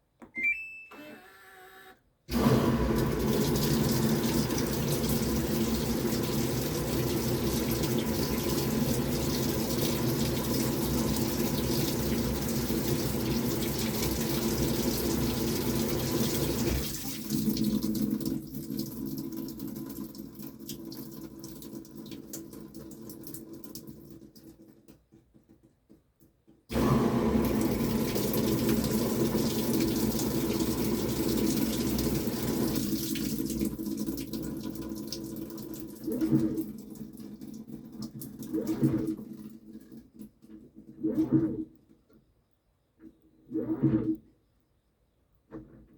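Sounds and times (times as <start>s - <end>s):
water rushing into washing machine: 2.3s - 24.8s, 26.7s - 41.7s.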